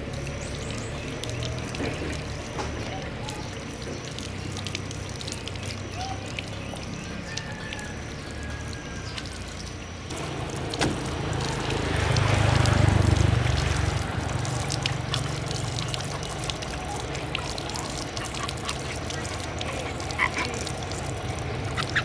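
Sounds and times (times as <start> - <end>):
water pouring: 0.0 - 22.0.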